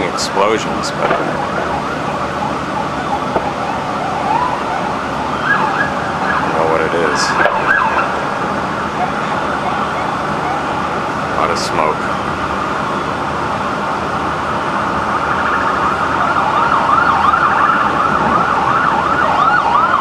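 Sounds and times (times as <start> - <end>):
emergency sirens wailing: 0.0 - 20.0
steady background noise: 0.0 - 20.0.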